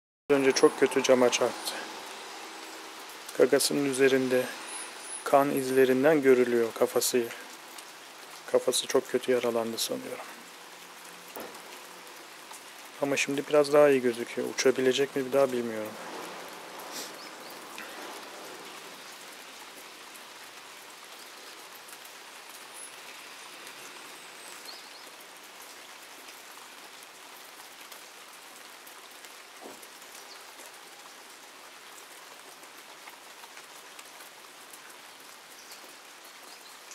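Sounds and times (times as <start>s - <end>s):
rain falling on wet paving: 0.3s - 36.9s.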